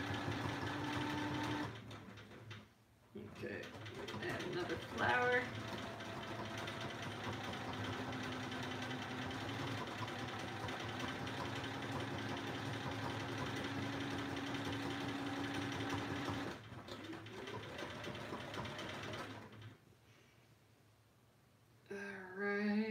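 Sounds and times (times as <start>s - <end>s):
sewing machine stitching: 0.0s - 19.8s.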